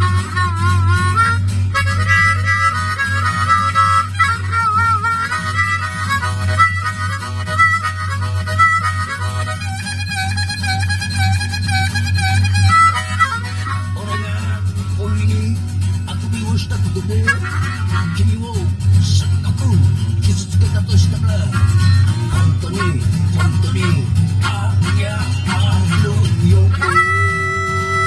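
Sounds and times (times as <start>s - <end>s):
harmonica melody: 0.0s - 16.0s, 16.6s - 19.1s, 20.6s - 28.0s.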